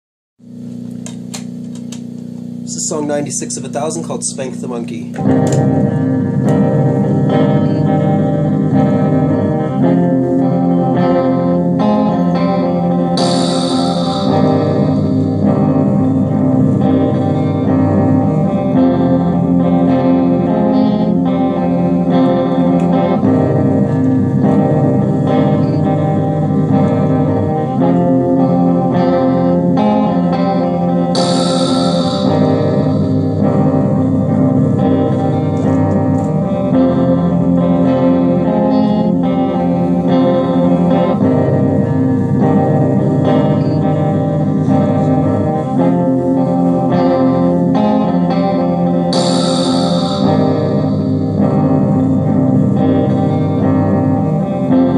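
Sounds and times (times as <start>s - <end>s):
guitar playing chords: 0.4s - 54.9s.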